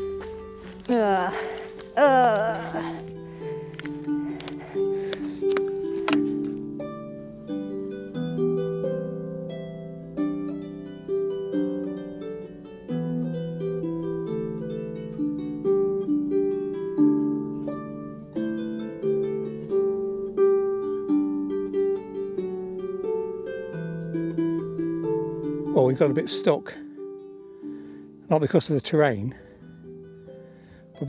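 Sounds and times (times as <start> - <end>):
plucked string melody: 0.0 - 31.0.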